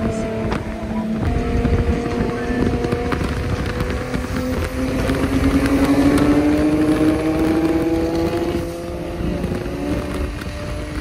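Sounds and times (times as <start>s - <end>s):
car engine accelerating: 0.0s - 11.0s
road and wind noise: 0.0s - 11.0s.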